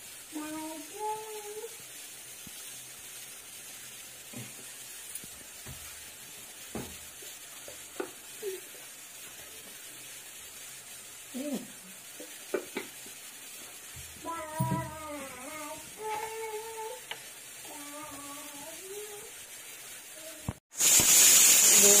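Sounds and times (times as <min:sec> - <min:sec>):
oil sizzling: 0:00.0 - 0:22.0.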